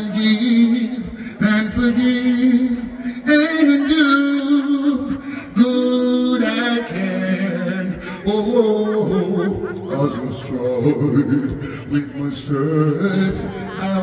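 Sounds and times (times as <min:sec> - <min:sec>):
man singing reggae through pa: 0:00.0 - 0:14.0.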